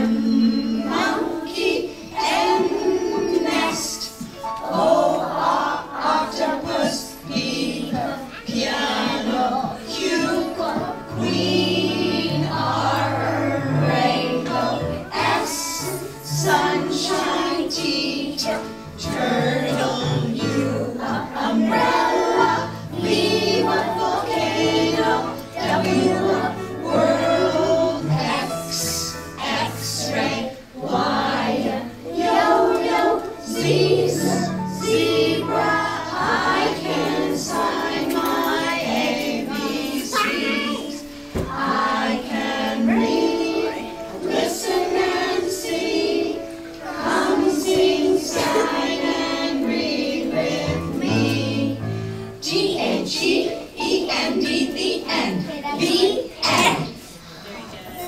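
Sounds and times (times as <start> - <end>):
children singing in unison: 0.0 - 58.0.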